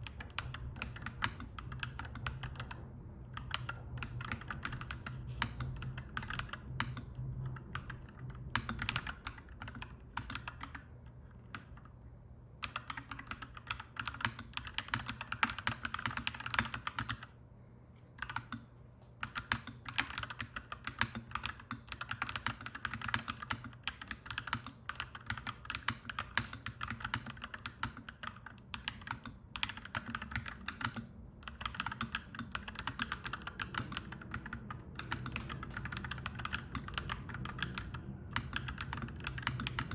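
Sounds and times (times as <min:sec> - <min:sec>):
mechanical keyboard typing: 0:00.0 - 0:11.9, 0:12.6 - 0:17.3, 0:18.2 - 0:39.9
steady low hum: 0:00.0 - 0:39.9.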